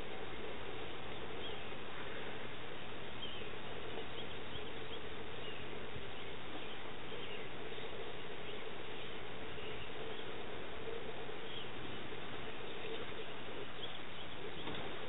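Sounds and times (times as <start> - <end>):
low even hum: 0.0 - 15.0
outdoor background noise: 0.0 - 15.0.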